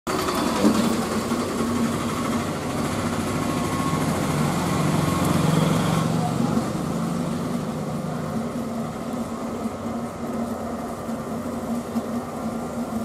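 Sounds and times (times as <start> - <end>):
potter's wheel motor humming: 0.1 - 13.0.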